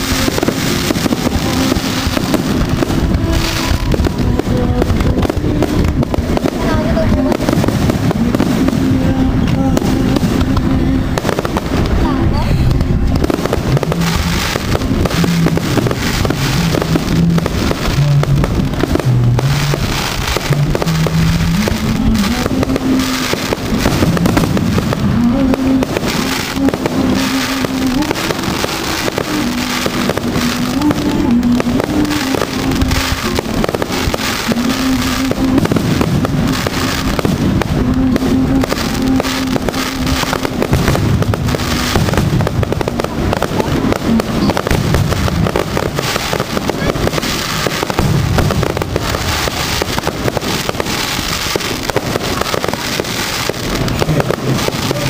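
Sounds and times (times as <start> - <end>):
fireworks bursting: 0.0 - 55.0
tune of held notes: 0.0 - 55.0.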